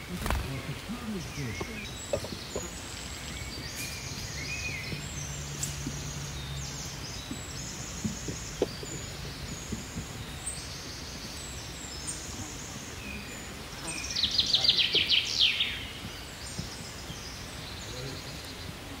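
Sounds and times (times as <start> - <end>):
birds chirping: 0.0 - 19.0
outdoor hiss: 0.0 - 19.0.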